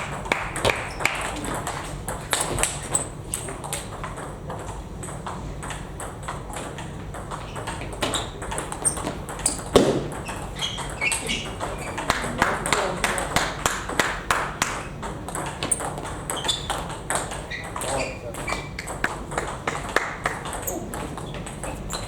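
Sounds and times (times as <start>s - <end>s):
table tennis balls clicking: 0.0s - 22.0s.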